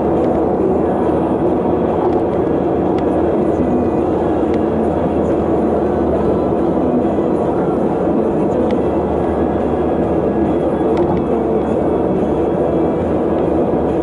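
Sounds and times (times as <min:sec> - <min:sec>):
vehicle engine: 0:00.0 - 0:14.0.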